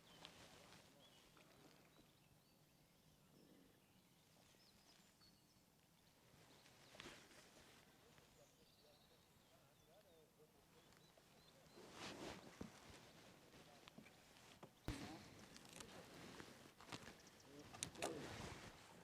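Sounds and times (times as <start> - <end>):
distant birds chirping: 0.0 - 19.0.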